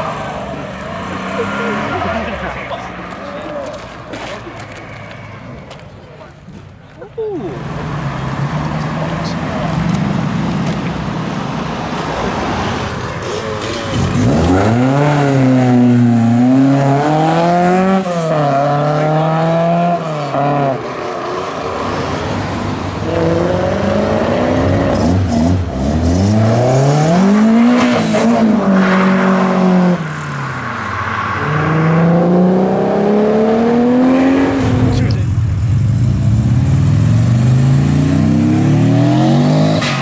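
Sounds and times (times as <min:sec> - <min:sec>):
car engine revving: 0:07.6 - 0:40.0.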